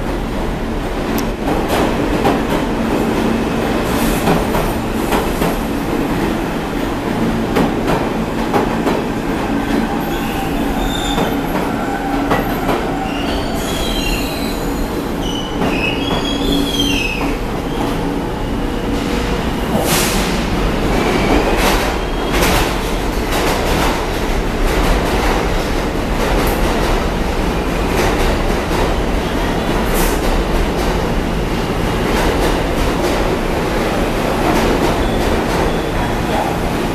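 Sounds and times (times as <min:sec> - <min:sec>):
subway train running noise: 0:00.0 - 0:36.9.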